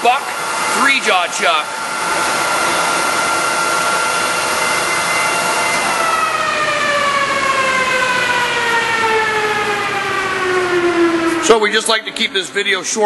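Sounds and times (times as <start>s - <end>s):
milling machine whine: 0.0s - 12.2s.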